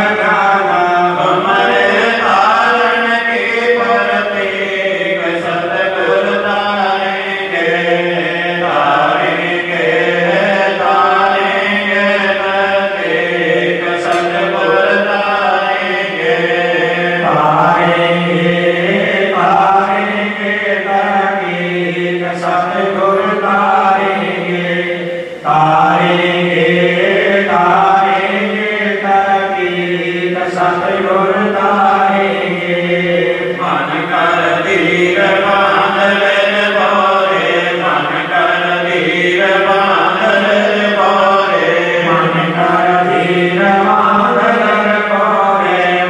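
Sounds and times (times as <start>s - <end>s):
devotional chanting: 0.0s - 46.0s.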